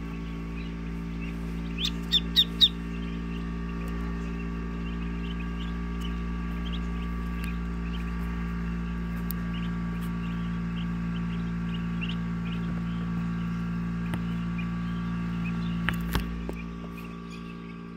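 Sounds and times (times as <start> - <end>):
ducklings peeping: 0.0 - 17.9
incubator electrical hum: 0.0 - 17.9.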